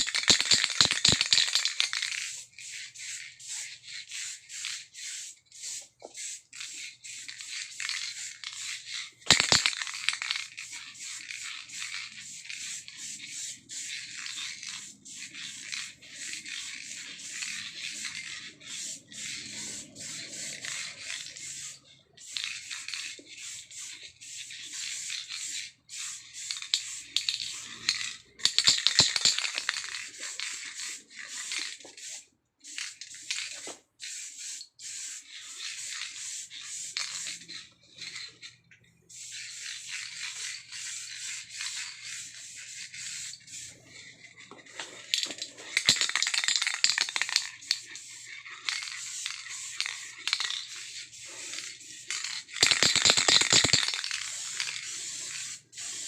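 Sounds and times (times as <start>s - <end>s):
spray paint can hissing: 0.0s - 38.4s, 39.1s - 56.0s.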